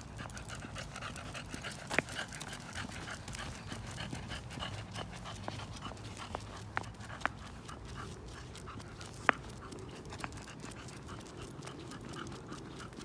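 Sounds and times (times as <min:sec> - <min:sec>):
small dog panting: 0:00.0 - 0:13.0.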